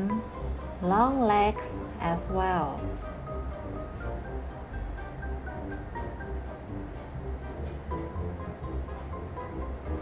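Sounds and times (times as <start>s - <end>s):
light background music with bass: 0.0s - 10.0s.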